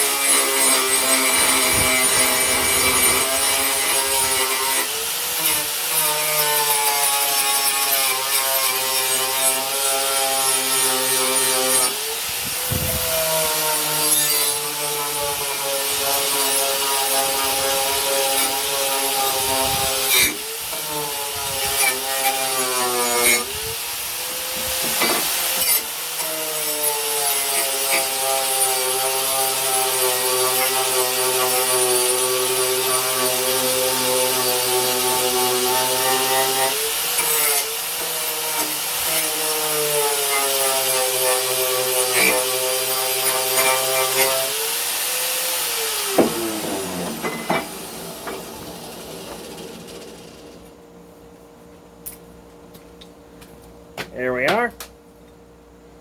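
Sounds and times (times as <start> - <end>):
wire brush scrubbing metal: 0.0 - 23.6, 24.7 - 50.6.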